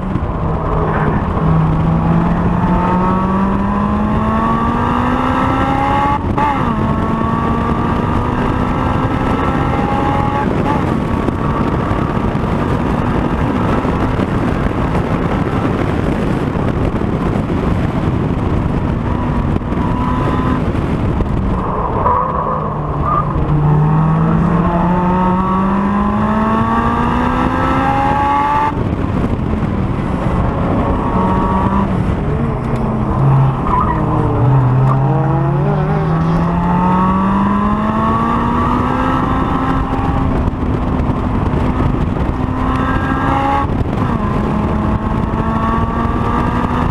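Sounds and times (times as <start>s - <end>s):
car engine revving hard: 0.0s - 14.0s, 19.3s - 46.9s
wind and road noise: 0.0s - 46.9s.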